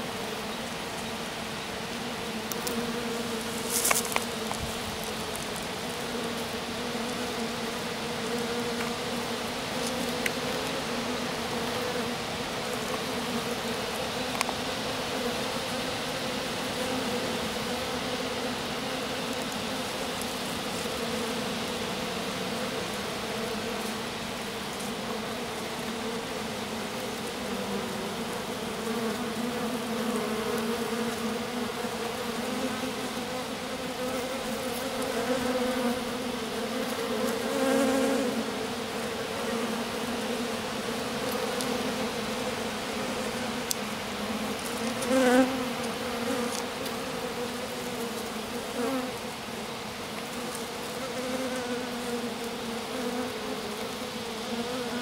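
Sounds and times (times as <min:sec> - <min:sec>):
honeybees buzzing: 0:00.0 - 0:55.0.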